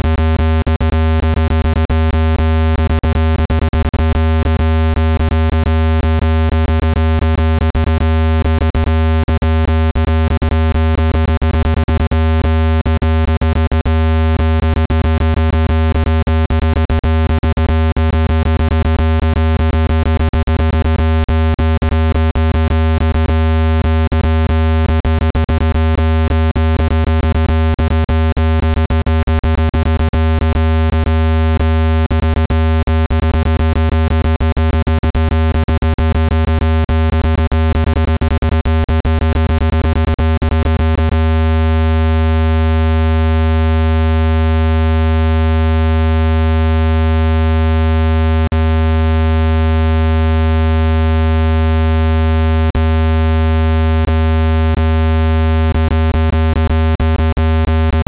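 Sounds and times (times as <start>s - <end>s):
low synthesized buzz tone: 0.0s - 58.0s.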